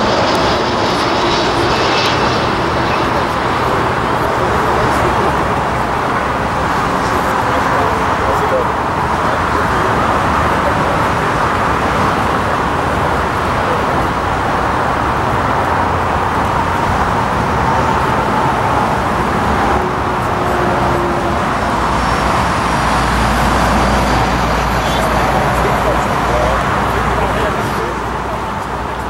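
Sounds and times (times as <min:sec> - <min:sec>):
jet engine roar: 0:00.0 - 0:29.0.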